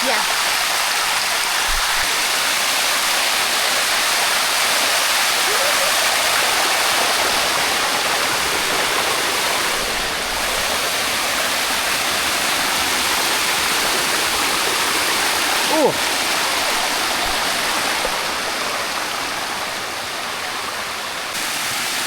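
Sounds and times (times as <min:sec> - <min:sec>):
water rushing down waterfall: 0:00.0 - 0:22.0.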